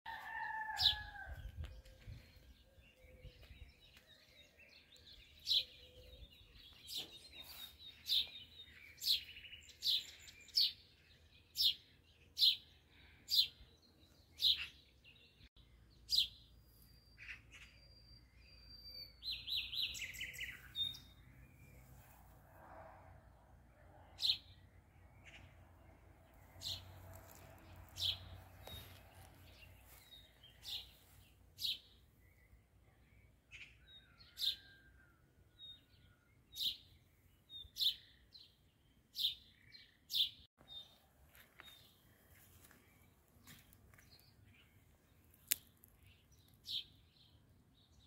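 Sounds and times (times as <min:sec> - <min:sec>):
bird chirping: 0:01.7 - 0:22.2, 0:24.0 - 0:48.0.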